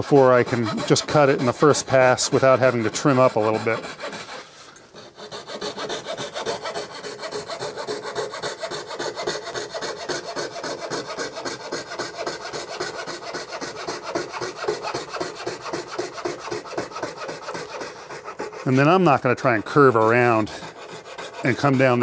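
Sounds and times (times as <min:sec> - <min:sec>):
coping saw cutting wood: 0:00.0 - 0:22.0.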